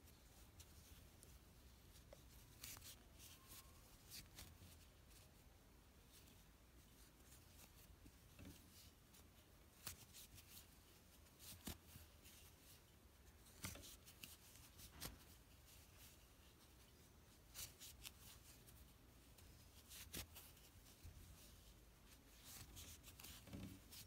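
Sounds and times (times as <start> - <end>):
soft clicks and rustles of crochet: 0.0 - 24.0.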